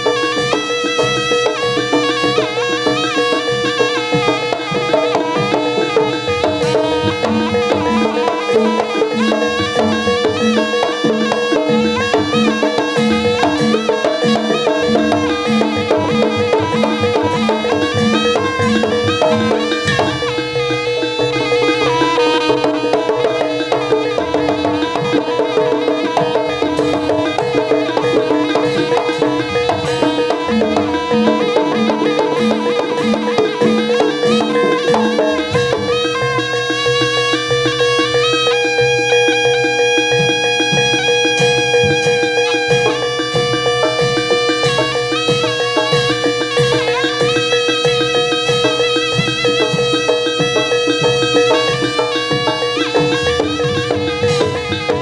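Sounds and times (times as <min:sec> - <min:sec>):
drumming: 0:00.0 - 0:55.0
held drone: 0:00.0 - 0:55.0
percussion: 0:00.0 - 0:55.0
reedy wind instrument melody: 0:00.0 - 0:55.0.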